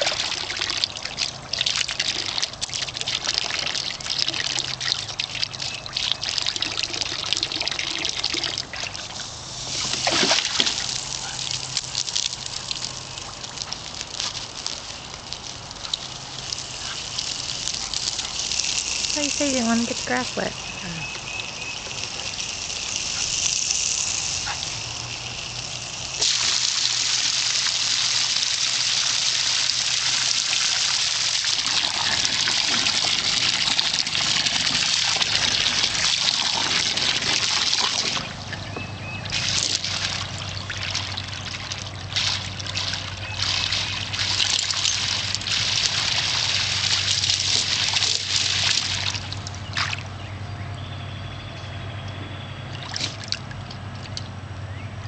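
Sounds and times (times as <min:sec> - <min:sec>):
garden hose spraying water: 0:00.0 - 0:50.2, 0:52.8 - 0:53.5.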